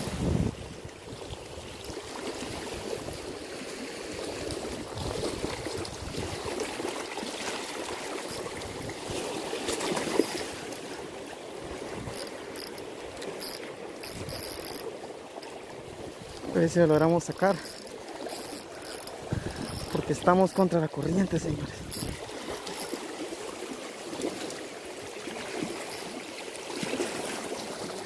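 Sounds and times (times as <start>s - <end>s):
lake water rushing and lapping: 0.0s - 28.0s.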